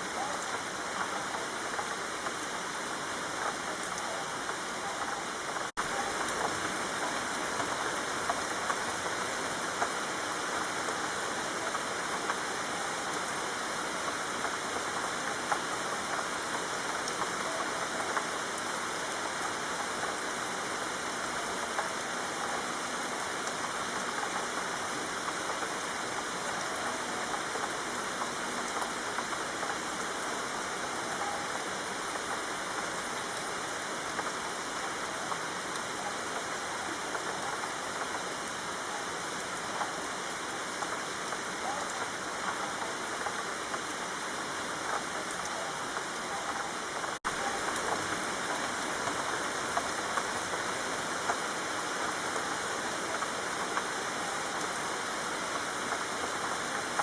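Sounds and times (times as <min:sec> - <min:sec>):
rain falling on a street: 0:00.0 - 0:57.0.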